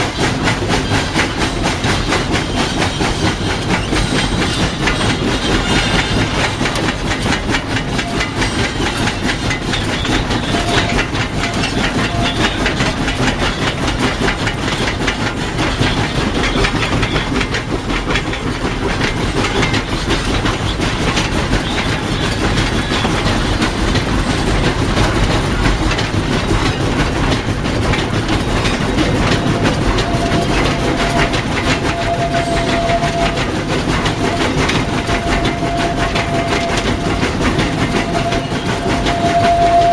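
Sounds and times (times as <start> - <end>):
steam locomotive rumble: 0.0 - 39.9
wheels clattering on rails: 0.0 - 39.9.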